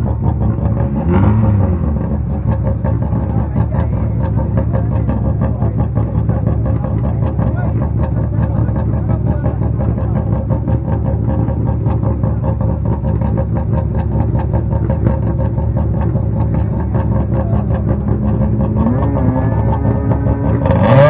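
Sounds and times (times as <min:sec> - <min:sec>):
rally car engine idling: 0:00.0 - 0:21.0.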